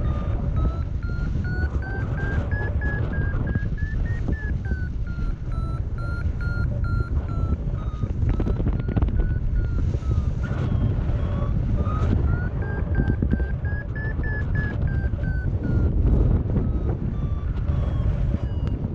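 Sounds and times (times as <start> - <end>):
variometer beeping: 0.0 - 18.9
wind rush on microphone: 0.0 - 18.9.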